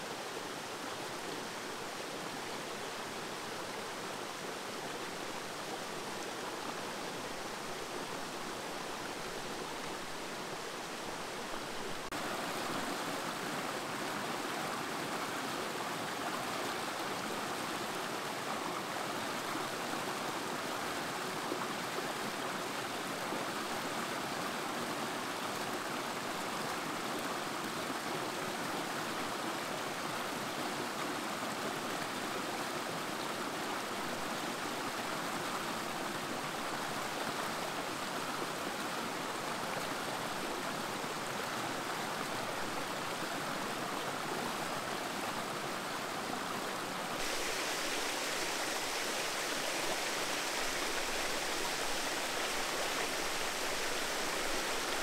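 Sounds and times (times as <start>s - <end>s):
stream cascading over rocks: 0.0s - 55.0s.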